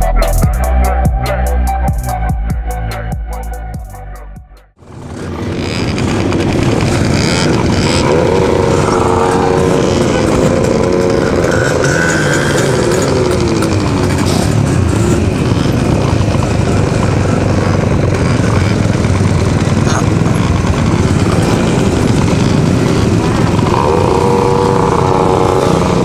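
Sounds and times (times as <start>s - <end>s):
small engines idling and revving: 4.7s - 26.0s.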